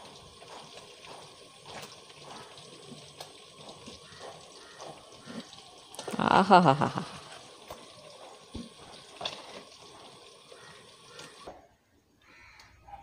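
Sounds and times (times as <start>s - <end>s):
fish sizzling in hot oil: 0.0s - 11.5s.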